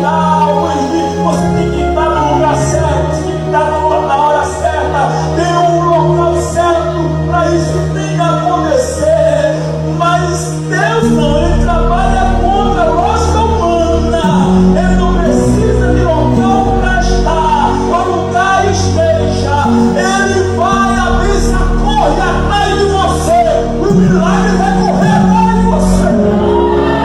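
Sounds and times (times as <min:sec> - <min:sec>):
deep bass: 0:00.0 - 0:27.0
long held chords: 0:00.0 - 0:27.0.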